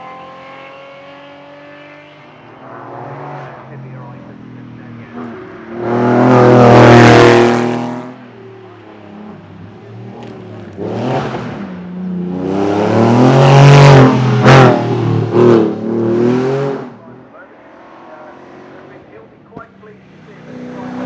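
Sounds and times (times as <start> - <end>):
racing car engine at full throttle: 0.0 - 21.0.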